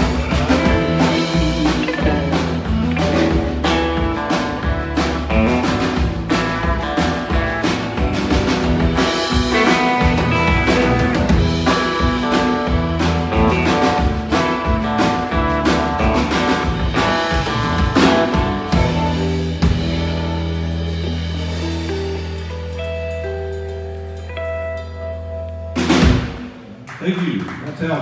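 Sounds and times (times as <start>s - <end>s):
guitars playing: 0.0s - 26.8s
drum kit: 0.0s - 26.9s.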